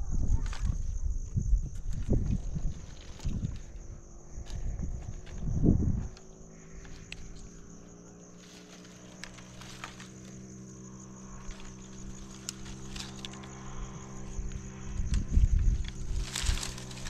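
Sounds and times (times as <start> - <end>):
insects trilling: 0.0 - 17.0
dry branches clicking and cracking: 1.7 - 17.0.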